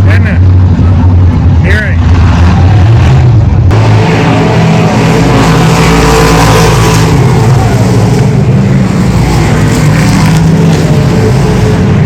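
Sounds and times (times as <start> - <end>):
race car engines running: 0.0 - 12.0.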